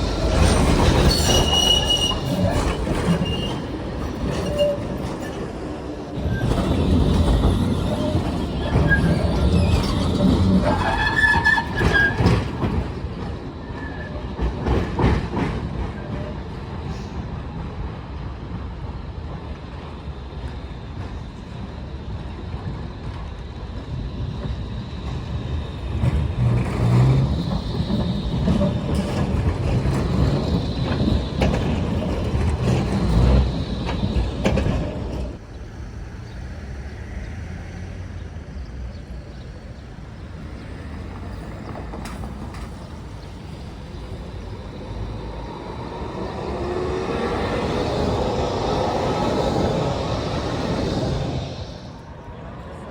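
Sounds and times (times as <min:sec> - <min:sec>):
tram wheels rumbling on rails: 0:00.0 - 0:52.9.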